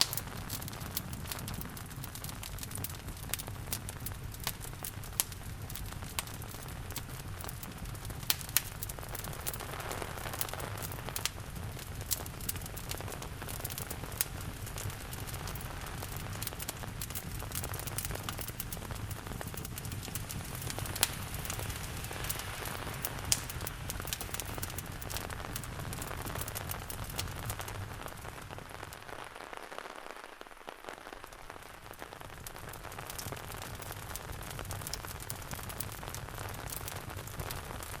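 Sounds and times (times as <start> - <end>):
steady rain: 0.0 - 38.0
wood fire crackling: 0.0 - 38.0.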